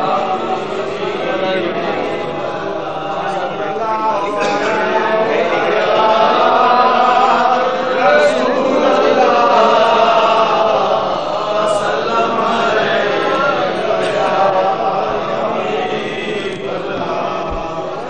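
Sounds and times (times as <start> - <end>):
crowd of men chanting: 0.0 - 18.0.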